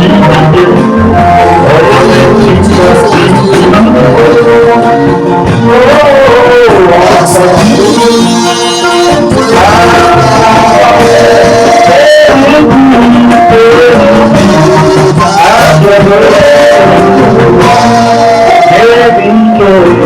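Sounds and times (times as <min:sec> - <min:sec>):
person singing over instruments: 0:00.0 - 0:20.0.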